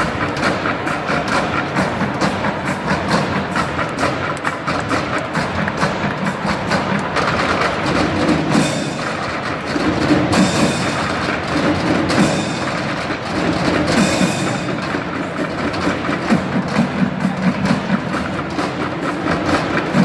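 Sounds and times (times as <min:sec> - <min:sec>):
children drumming on trash cans: 0:00.0 - 0:20.0.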